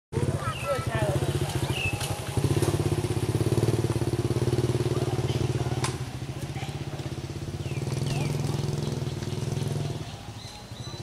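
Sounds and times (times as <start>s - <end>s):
small engine idling: 0.2s - 11.0s.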